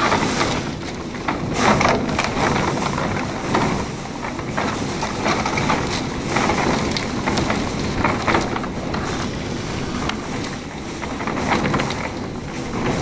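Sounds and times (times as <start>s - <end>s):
hurricane wind and rain: 0.0s - 13.0s.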